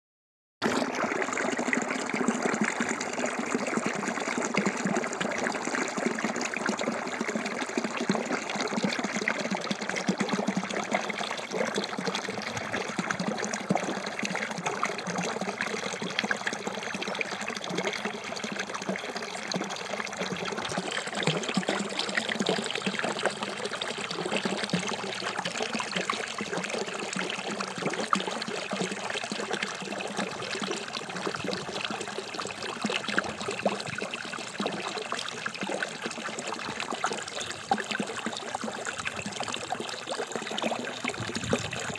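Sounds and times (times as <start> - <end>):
water pouring into a pool: 0.6 - 41.9.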